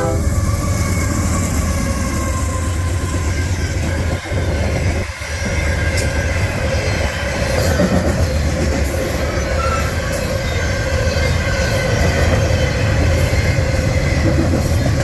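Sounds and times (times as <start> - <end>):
freight train rumbling by: 0.0 - 15.0.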